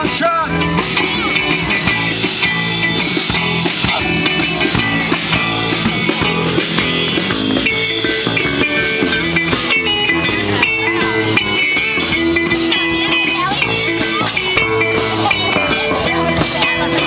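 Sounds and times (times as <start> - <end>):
drum kit: 0.0 - 17.0
electric guitars: 0.0 - 17.0.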